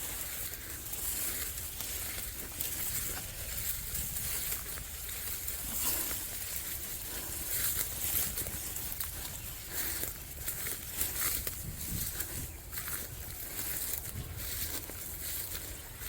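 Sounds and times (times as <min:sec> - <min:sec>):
wind rumble on microphone: 0:01.8 - 0:05.9, 0:07.0 - 0:16.0.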